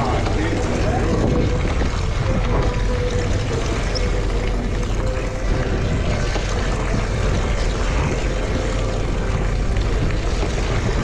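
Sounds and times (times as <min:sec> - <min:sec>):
low steady rumble: 0:00.0 - 0:11.0
wind and water rushing along hull: 0:00.0 - 0:11.0.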